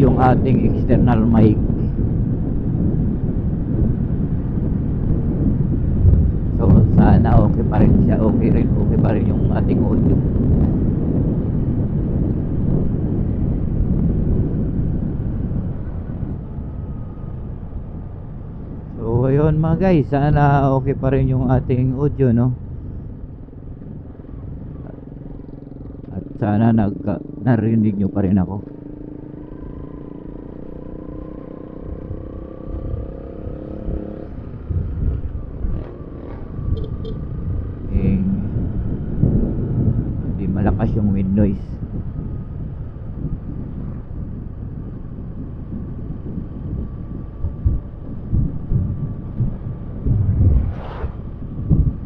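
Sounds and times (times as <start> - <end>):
road and engine noise: 0.0 - 52.0
wind buffeting microphone: 0.0 - 52.0.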